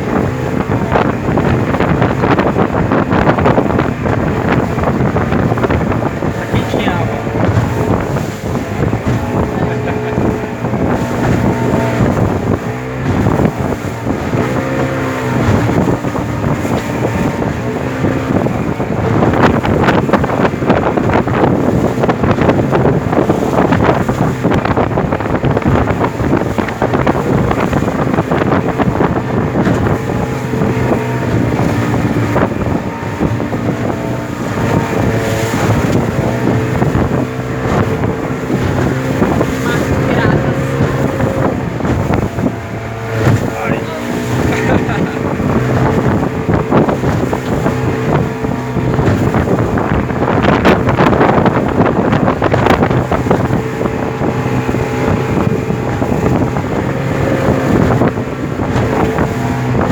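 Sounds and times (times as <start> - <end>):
motorboat engine running: 0.0 - 59.9
rushing water: 0.0 - 59.9
wind noise on microphone: 0.0 - 59.9.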